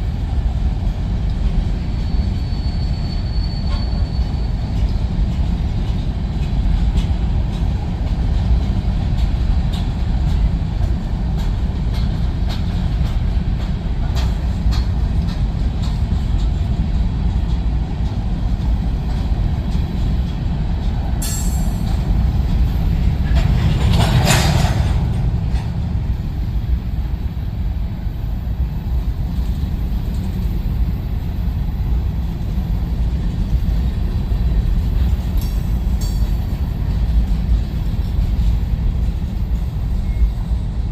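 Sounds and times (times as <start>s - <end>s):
freight train cars rolling past: 0.0s - 40.9s.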